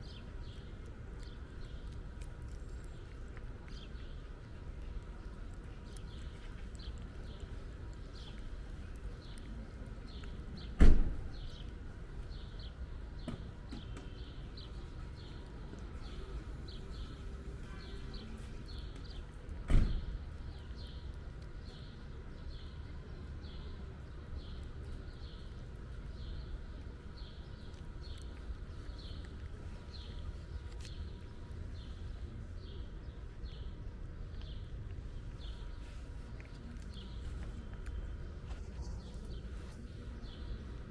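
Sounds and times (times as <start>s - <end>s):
cat eating wet food: 0.0s - 40.9s.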